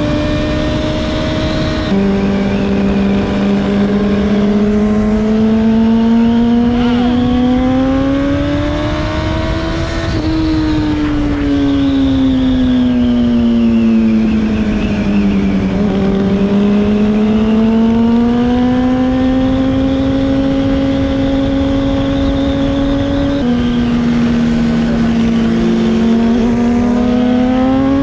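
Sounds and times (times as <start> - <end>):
motorcycle engine: 0.0 - 28.0
wind rush: 0.0 - 28.0.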